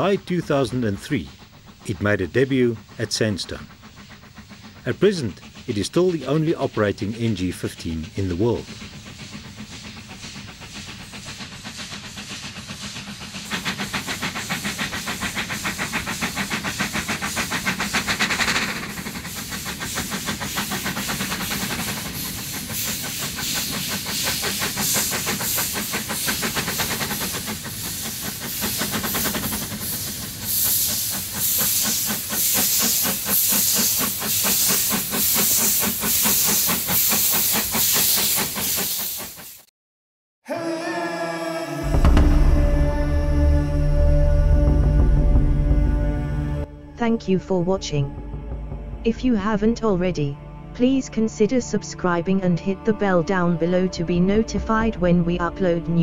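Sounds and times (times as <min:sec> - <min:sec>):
steam hissing: 0:00.0 - 0:39.7, 0:40.5 - 0:56.0
steam locomotive exhaust chuffs: 0:00.0 - 0:39.7, 0:40.5 - 0:56.0.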